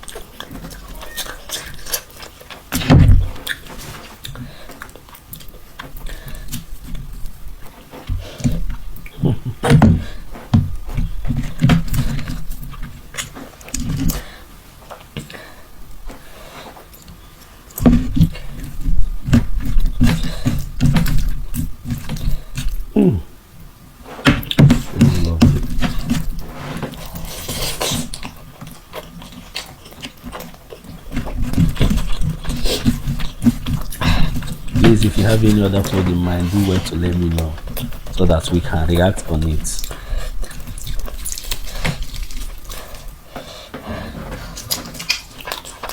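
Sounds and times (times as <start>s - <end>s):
man chewing and smacking: 0.0s - 23.3s, 24.3s - 45.9s.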